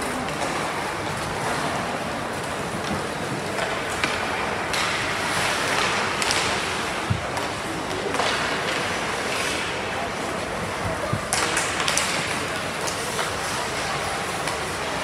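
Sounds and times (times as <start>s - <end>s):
skates scraping ice: 0.0s - 15.0s.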